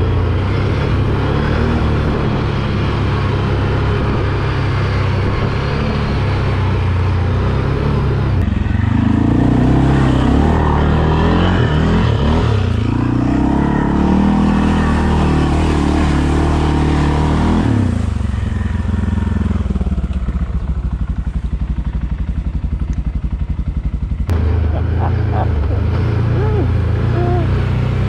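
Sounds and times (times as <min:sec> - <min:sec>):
atv engine revving and idling: 0:00.0 - 0:28.0.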